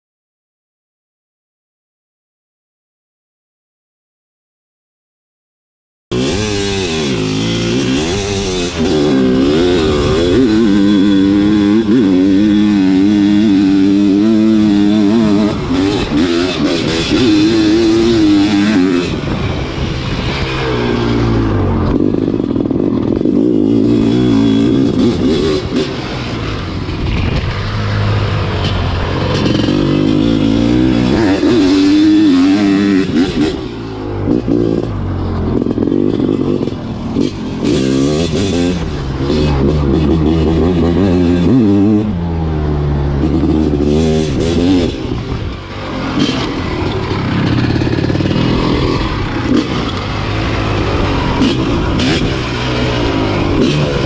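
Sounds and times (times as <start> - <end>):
motocross engine revving: 6.1 - 54.0.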